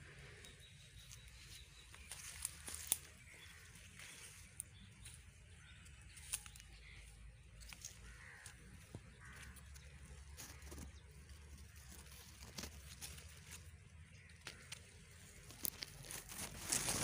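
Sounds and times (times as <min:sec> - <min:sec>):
rustling and twig snaps: 0:00.4 - 0:11.0, 0:11.7 - 0:17.0.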